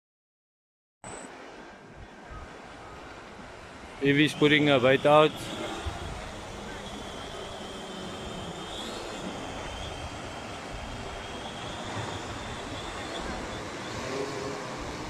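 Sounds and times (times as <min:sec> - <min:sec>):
drone propellers whining: 0:01.1 - 0:15.0
surf washing: 0:01.3 - 0:15.0.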